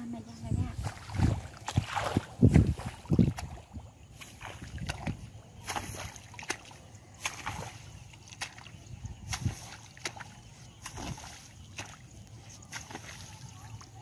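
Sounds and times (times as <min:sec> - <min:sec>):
rake sloshing through water: 0:00.6 - 0:14.0.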